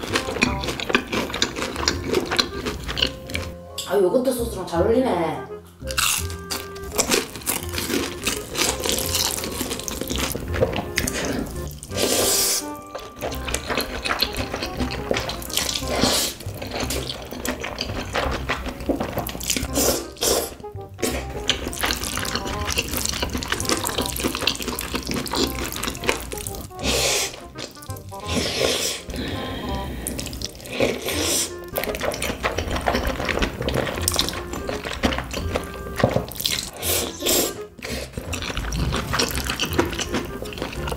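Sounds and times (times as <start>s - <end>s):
slurping noodles: 0.0s - 3.6s, 5.8s - 40.9s
sticky chewing: 0.0s - 3.6s, 5.8s - 40.9s
background music: 0.0s - 40.9s.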